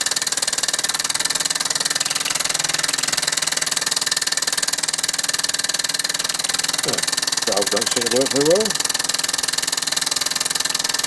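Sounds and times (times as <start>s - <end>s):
model steam engine running: 0.0s - 11.0s.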